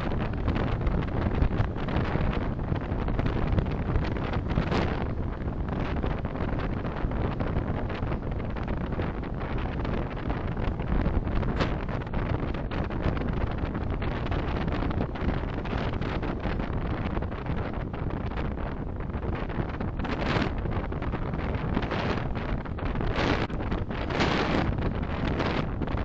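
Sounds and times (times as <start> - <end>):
car road and tyre noise: 0.0 - 26.0.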